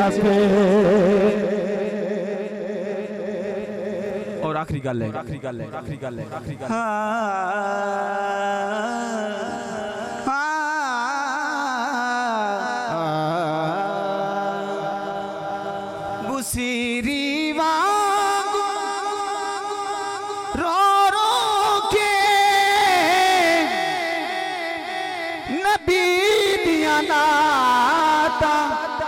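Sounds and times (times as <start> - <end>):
man singing into a microphone: 0.0 - 29.0.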